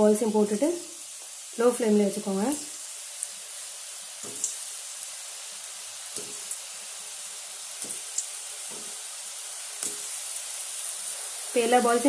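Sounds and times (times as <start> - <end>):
dough deep-frying in oil: 0.0 - 12.0.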